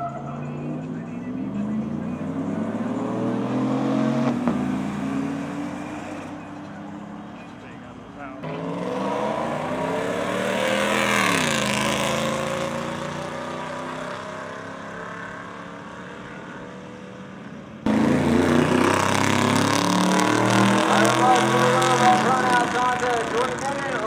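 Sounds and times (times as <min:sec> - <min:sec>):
pickup trucks racing: 0:00.0 - 0:24.0.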